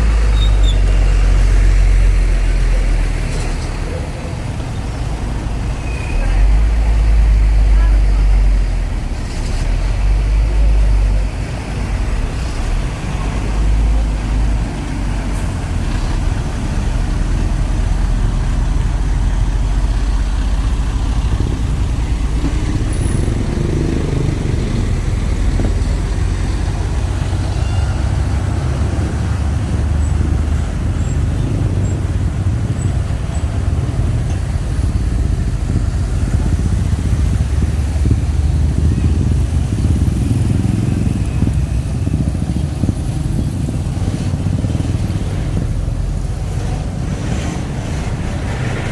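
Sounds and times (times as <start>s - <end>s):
traffic engines rumbling: 0.0s - 48.9s.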